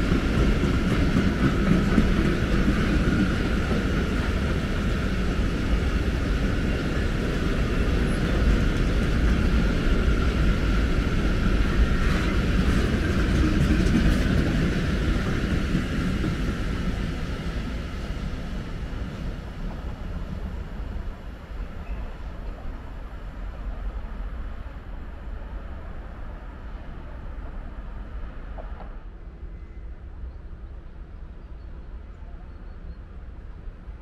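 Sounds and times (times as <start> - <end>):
freight train rolling on rails: 0.0 - 34.0.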